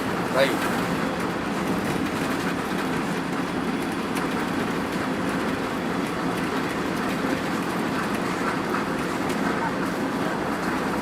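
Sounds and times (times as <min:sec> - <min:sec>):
coach engine and road noise: 0:00.0 - 0:11.0.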